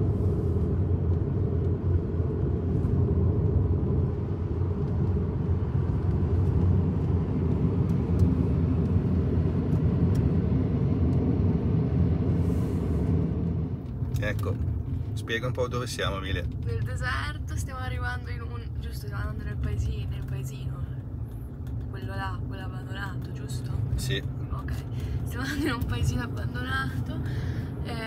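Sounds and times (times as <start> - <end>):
car cabin road rumble: 0.0 - 28.0.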